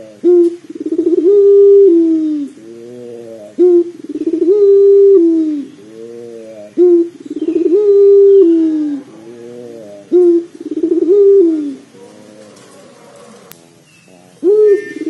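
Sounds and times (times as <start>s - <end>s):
dove cooing with rolling trill: 0.0s - 13.6s, 14.4s - 15.0s.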